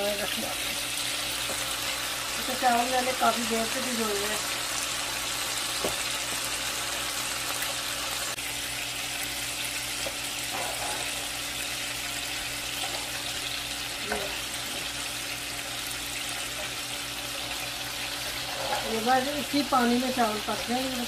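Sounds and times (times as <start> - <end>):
stock boiling with steady bubbling: 0.0 - 21.0.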